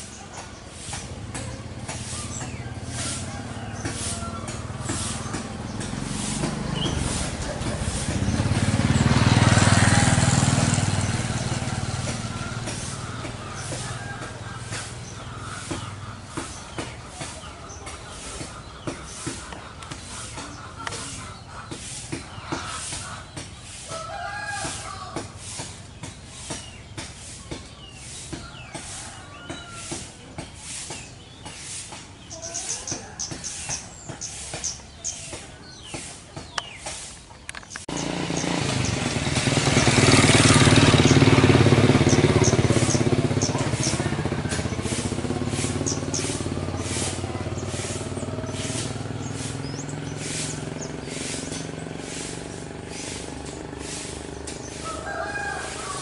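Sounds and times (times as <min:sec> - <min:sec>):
birds chirping and twittering: 0:00.0 - 0:56.0
vehicle engine passing: 0:00.0 - 0:56.0.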